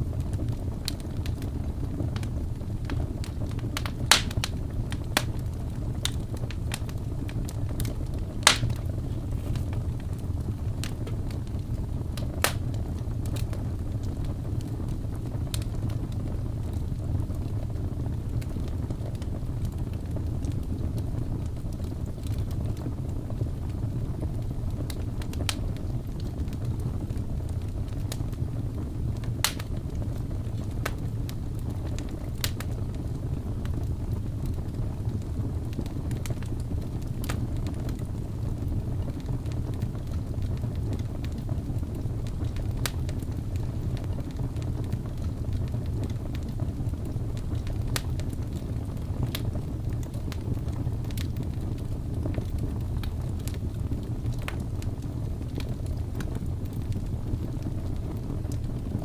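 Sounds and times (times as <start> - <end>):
fire crackles and pops: 0.0 - 59.0
wood fire rumbling: 0.0 - 59.0.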